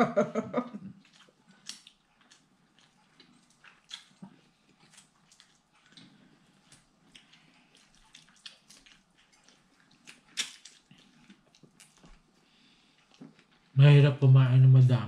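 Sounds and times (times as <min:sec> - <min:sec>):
quiet chewing: 0:00.8 - 0:13.8.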